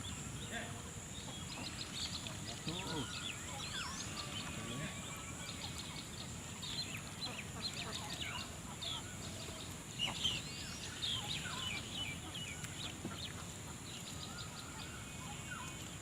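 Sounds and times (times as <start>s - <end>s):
low steady background noise: 0.0s - 16.0s
small birds chirping: 0.0s - 16.0s.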